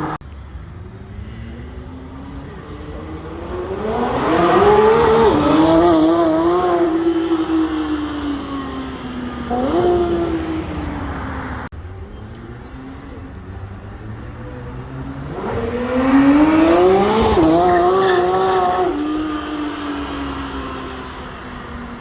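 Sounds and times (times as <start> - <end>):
sports car engine accelerating: 1.9 - 22.0.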